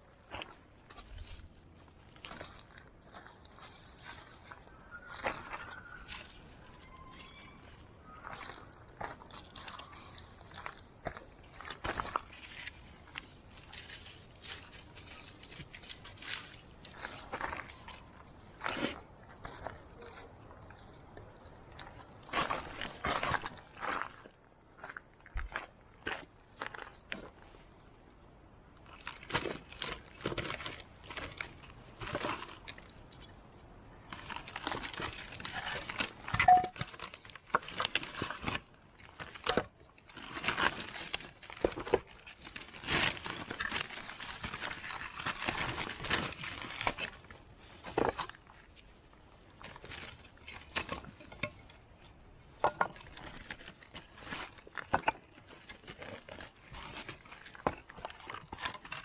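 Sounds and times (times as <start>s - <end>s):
rustling and crinkling of objects handled: 0.0s - 59.0s.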